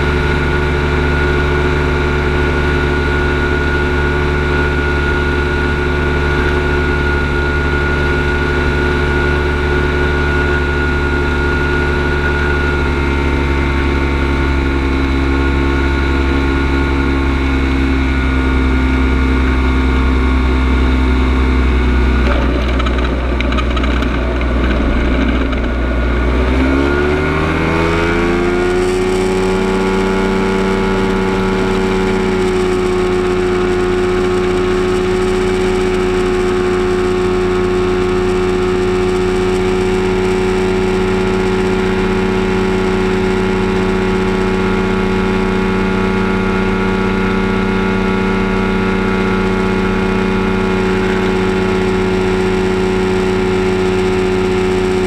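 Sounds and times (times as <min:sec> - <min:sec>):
light aircraft engine and propeller: 0:00.0 - 0:55.0.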